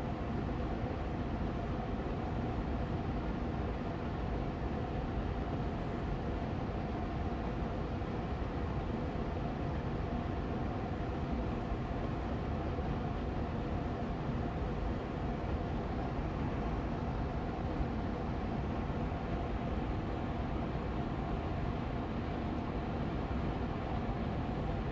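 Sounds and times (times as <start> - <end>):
air purifier fan humming: 0.0 - 24.9.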